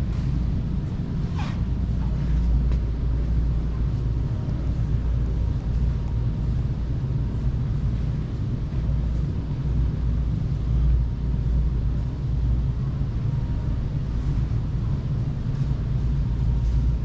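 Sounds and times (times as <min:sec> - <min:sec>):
faint steady hum: 0:00.0 - 0:17.0
low room noise rumble: 0:00.0 - 0:17.0.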